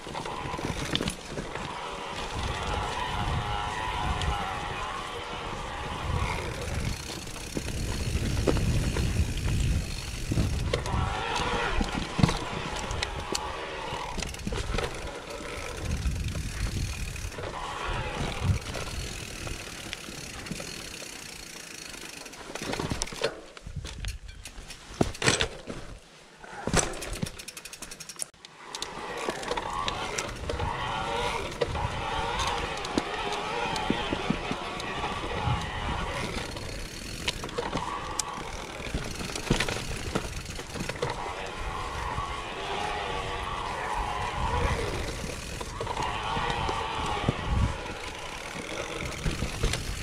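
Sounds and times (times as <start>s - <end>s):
bike rattling: 0.0s - 50.0s
bike tyres crunching over stones: 0.0s - 50.0s.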